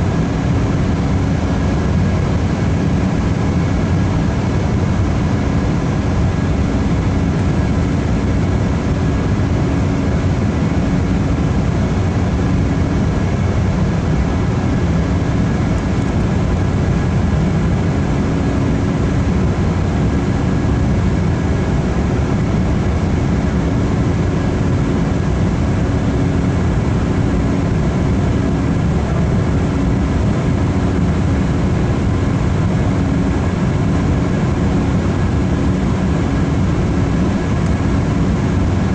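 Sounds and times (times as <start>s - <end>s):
jet engine roar in cabin: 0.0s - 38.9s.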